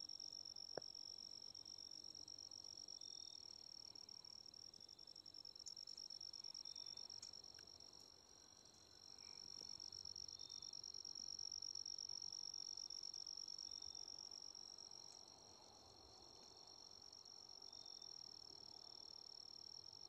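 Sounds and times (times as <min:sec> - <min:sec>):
woodland ambience: 0:00.0 - 0:20.0
high-pitched insect trill: 0:00.1 - 0:19.6.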